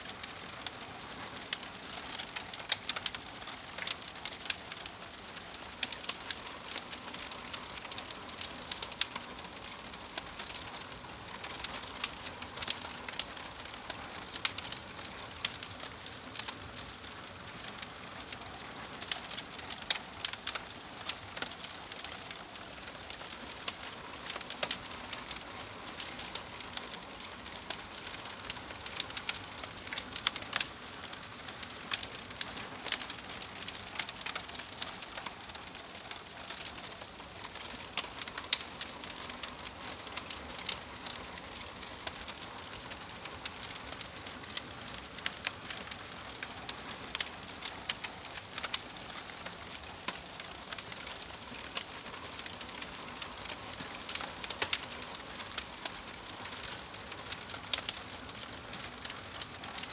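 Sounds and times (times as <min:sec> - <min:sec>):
fire popping and snapping: 0:00.0 - 0:59.9
soft hiss of fire: 0:00.0 - 0:59.9.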